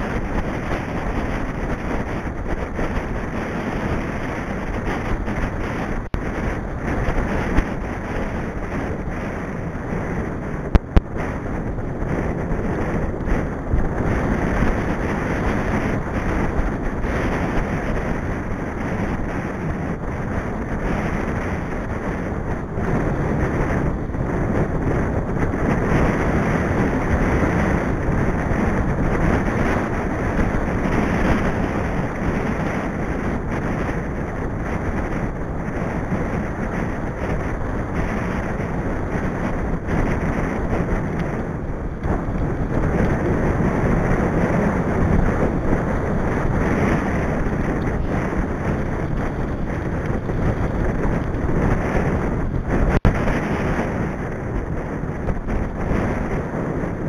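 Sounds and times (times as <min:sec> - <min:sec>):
bike tyres on wet tarmac: 0:00.0 - 0:57.0
wind buffeting microphone: 0:00.0 - 0:57.0.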